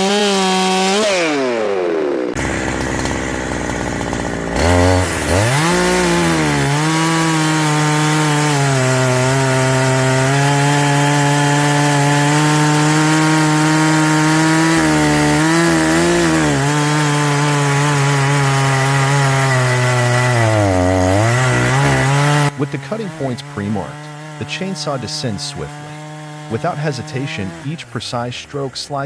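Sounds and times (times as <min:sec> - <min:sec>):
chainsaw cutting through log: 0:00.0 - 0:29.0.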